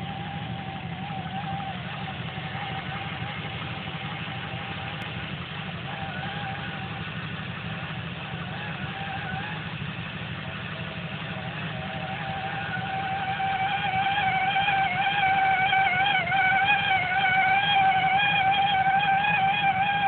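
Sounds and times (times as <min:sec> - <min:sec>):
car engine running: 0:00.0 - 0:20.0
high wavering whine: 0:00.0 - 0:20.0.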